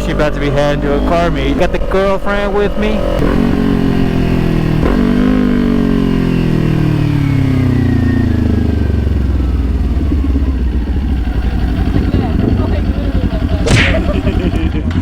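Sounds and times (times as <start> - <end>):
motorcycle engine slowing: 0.0 - 15.0.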